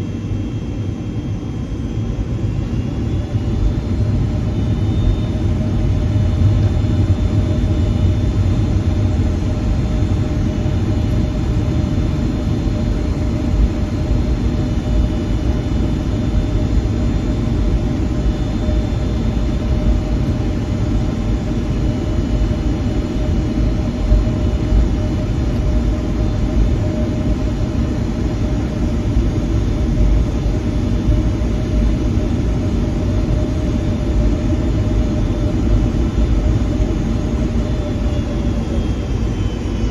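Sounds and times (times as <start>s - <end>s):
faint high whine: 0.0s - 39.9s
airplane cabin rumble: 1.4s - 39.9s.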